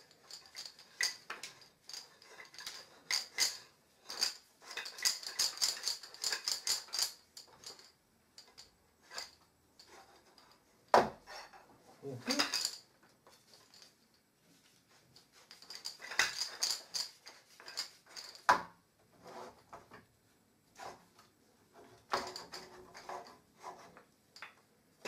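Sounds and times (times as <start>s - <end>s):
wooden parts clicking and clattering: 0.0s - 14.3s, 15.3s - 18.8s, 20.8s - 24.7s.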